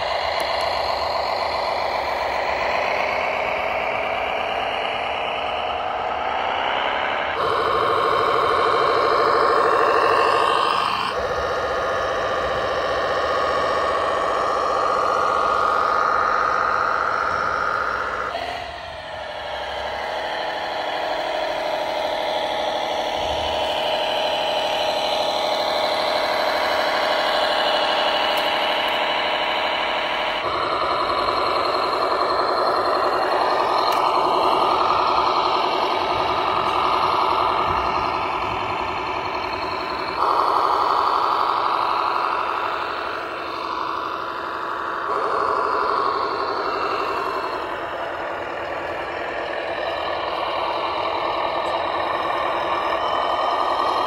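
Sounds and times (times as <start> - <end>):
model tractors humming: 0.0 - 54.0.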